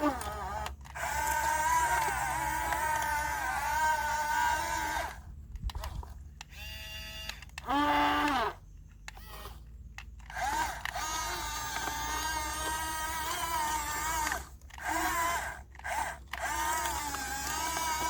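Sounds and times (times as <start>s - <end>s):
small electric motors whining: 0.0s - 18.0s.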